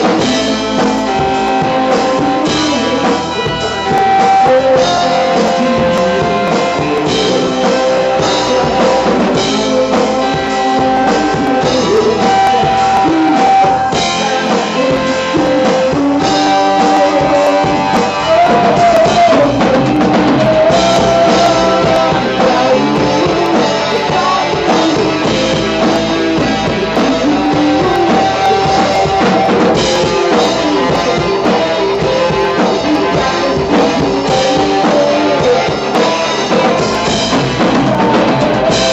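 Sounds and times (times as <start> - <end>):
bending melody line: 0.0 - 38.9
rock band playing: 0.0 - 38.9.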